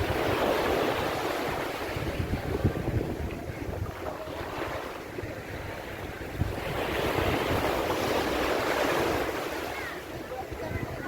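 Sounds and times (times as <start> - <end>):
sea waves breaking: 0.0 - 11.0
wind buffeting microphone: 0.0 - 11.0.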